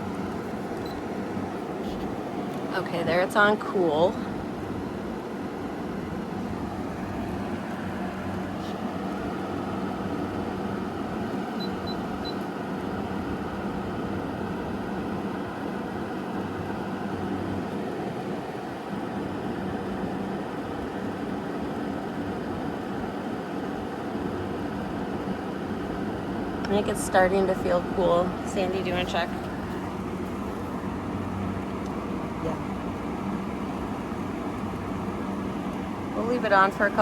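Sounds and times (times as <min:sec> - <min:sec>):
air conditioner running: 0:00.0 - 0:37.0.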